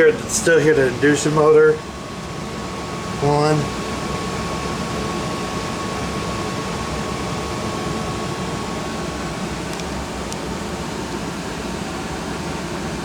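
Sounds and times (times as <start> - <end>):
furnace inducer motor whirring: 0.0 - 13.0.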